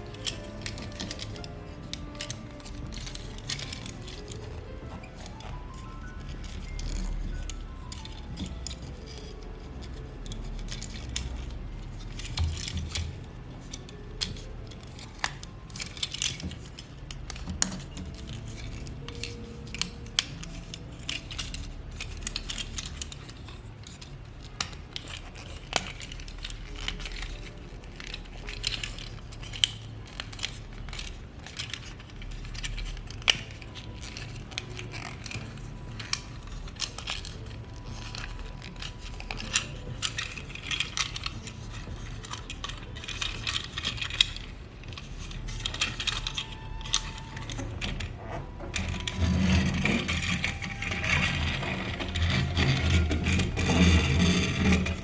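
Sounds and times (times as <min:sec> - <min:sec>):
plastic toy clicking and clattering: 0:00.0 - 0:55.0.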